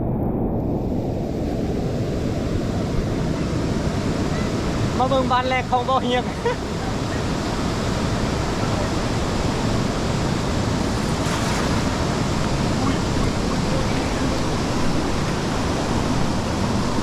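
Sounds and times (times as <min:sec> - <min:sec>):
wind on microphone: 0:00.0 - 0:17.0
fast-flowing river water rushing: 0:02.3 - 0:17.0.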